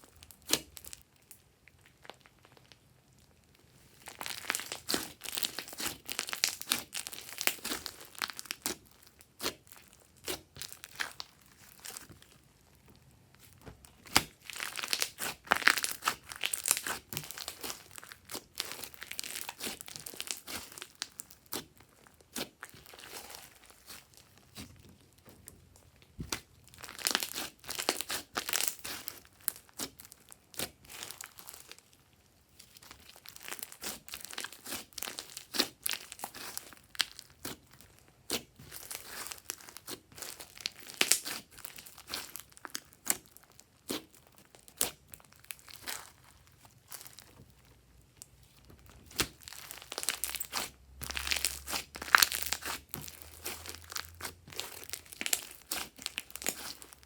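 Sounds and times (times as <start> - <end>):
slime squishing with sticky pops: 0.0 - 57.0.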